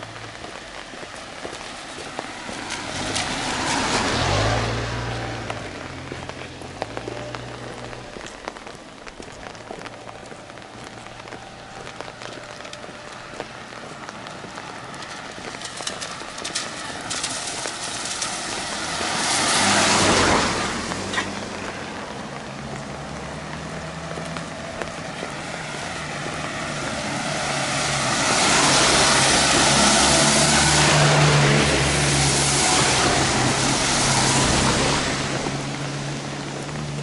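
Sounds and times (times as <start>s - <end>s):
vehicle passing: 0.0s - 37.0s.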